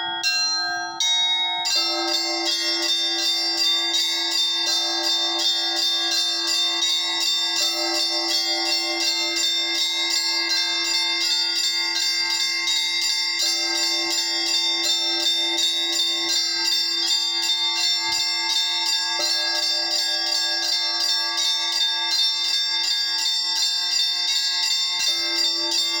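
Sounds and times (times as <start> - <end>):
higher church bells pealing: 0.0 - 26.0.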